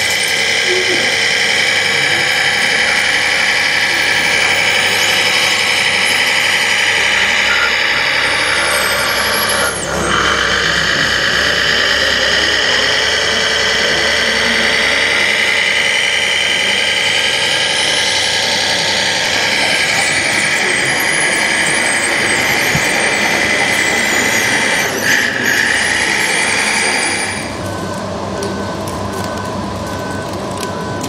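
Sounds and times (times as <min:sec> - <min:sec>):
model vehicle motors whining: 0:00.0 - 0:27.9.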